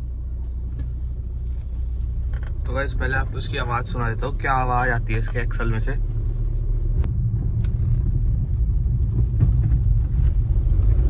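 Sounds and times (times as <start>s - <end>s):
moving car rumble: 0.0s - 11.0s.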